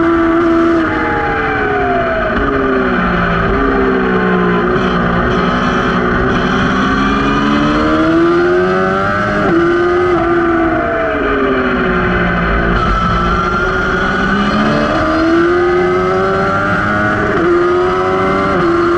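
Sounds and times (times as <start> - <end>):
racing motorcycle engine: 0.0 - 18.9.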